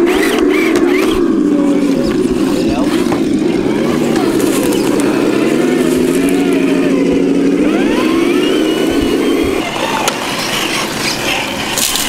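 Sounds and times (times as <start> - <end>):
rc truck motor whining: 0.0 - 12.0.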